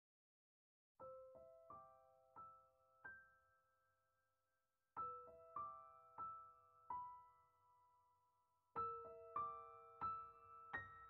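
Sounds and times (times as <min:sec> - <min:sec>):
soft slow piano music: 0:01.0 - 0:11.0.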